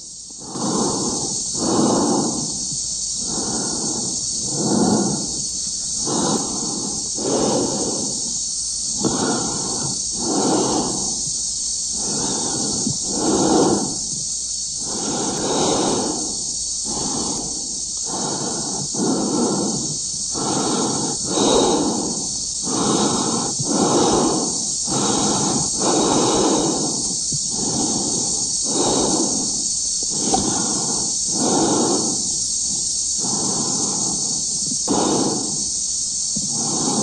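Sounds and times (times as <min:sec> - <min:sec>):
heavy rhythmic breathing: 0:00.0 - 0:37.0
steady high hiss: 0:00.0 - 0:37.0.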